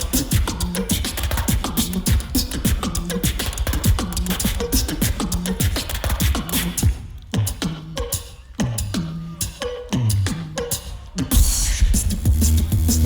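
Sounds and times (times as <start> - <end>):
beatboxed bass kicks: 0.0 - 13.0
beatboxing: 0.0 - 13.0
snare and hi-hat clicks: 0.0 - 13.0.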